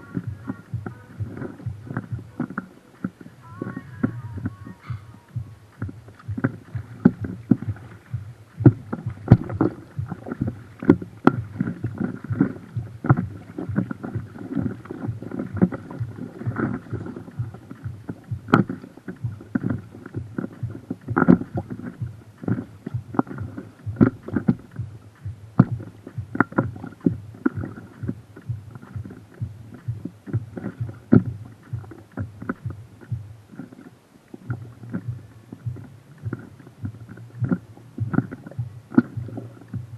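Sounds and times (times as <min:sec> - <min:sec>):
low rumble: 0:00.0 - 0:39.9
water slapping against boat hull: 0:00.0 - 0:39.9.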